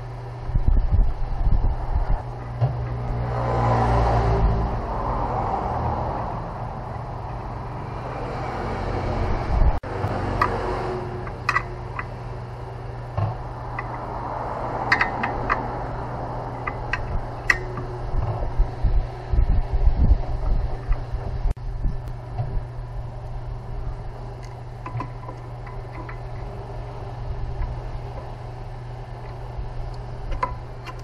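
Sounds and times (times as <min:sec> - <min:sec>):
mechanical hum with low drone: 0:00.0 - 0:31.0.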